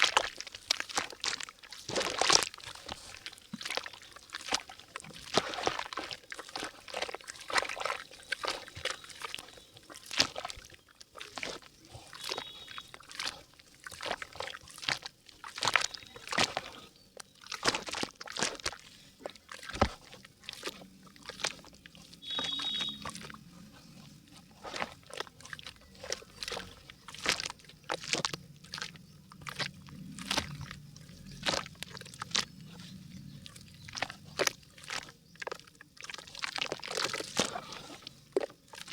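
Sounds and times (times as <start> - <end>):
mud crackling and crunching: 0.0 - 38.9
wet mud sloshing: 0.0 - 38.9.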